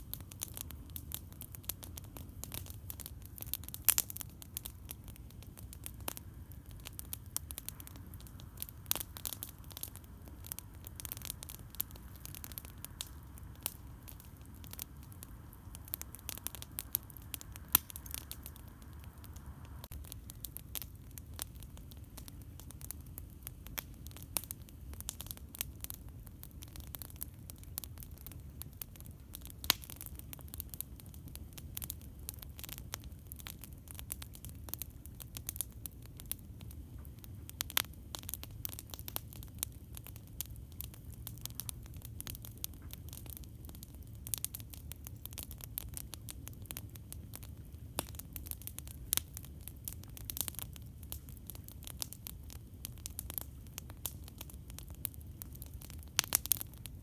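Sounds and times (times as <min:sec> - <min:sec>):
campfire crackling and popping: 0:00.0 - 0:57.0
low fire rumble: 0:00.0 - 0:57.0.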